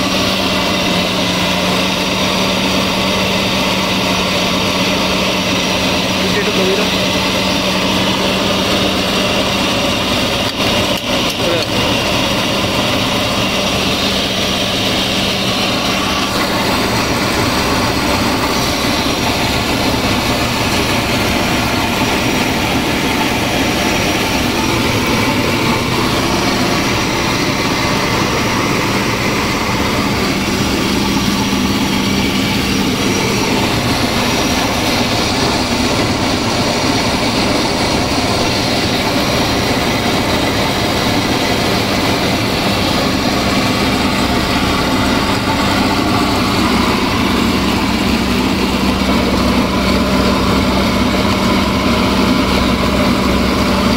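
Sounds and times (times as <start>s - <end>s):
flour mill machinery running: 0.0s - 53.9s.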